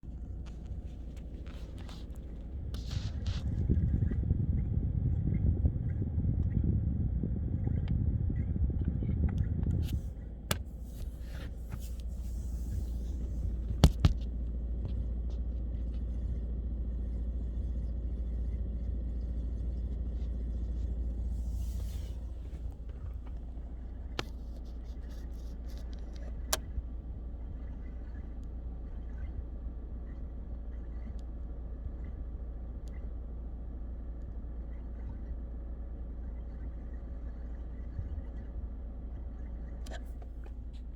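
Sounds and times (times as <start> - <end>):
car cabin low hum: 0.0 - 40.9.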